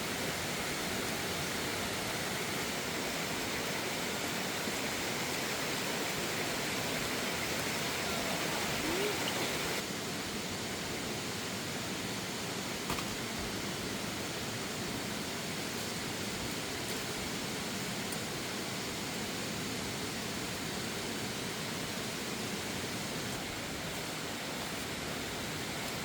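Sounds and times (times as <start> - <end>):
fast-flowing water rushing: 0.0 - 12.8, 13.6 - 26.0.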